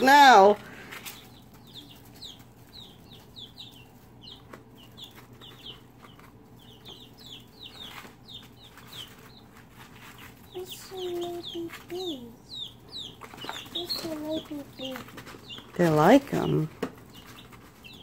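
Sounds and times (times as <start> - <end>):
young hens peeping: 0.0 - 18.0.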